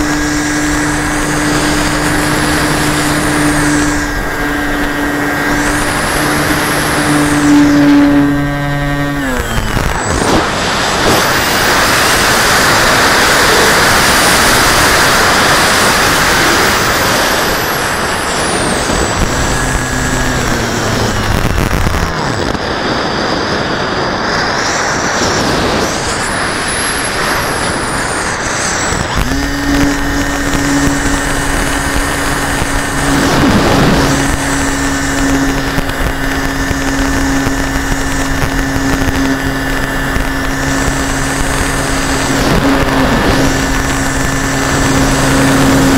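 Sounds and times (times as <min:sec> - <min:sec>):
heavy wind rush: 0:00.0 - 0:45.9
model airplane motor and propeller: 0:00.0 - 0:45.9.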